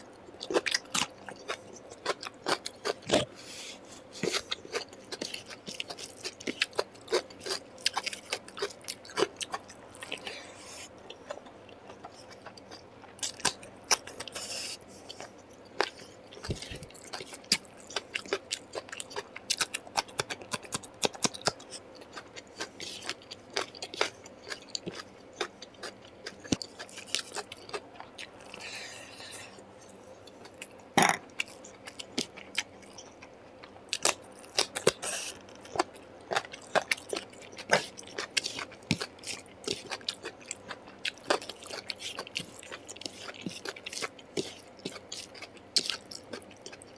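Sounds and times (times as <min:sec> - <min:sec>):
wet chewing and lip-smacking: 0:04.2 - 0:28.6, 0:29.8 - 0:46.9.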